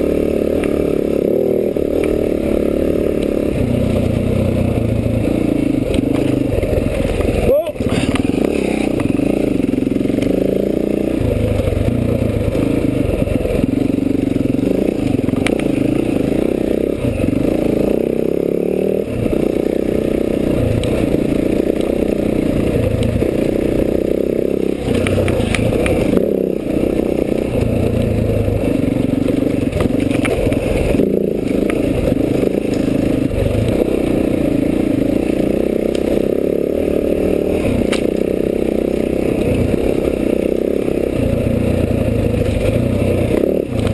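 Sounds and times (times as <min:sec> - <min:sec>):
dirt bike engine: 0:00.0 - 0:43.9.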